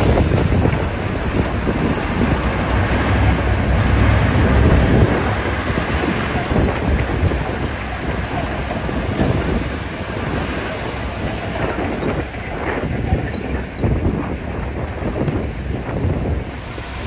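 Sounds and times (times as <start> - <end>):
bulldozer diesel engine running: 0.0 - 17.0
wind buffeting microphone: 0.0 - 17.0.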